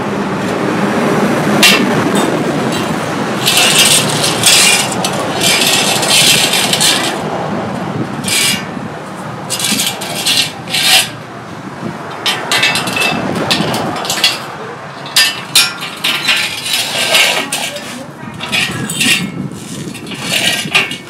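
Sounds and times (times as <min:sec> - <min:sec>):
metal scraping on steel tubing: 0:01.6 - 0:07.3, 0:08.2 - 0:08.8, 0:09.4 - 0:11.2, 0:12.1 - 0:21.0.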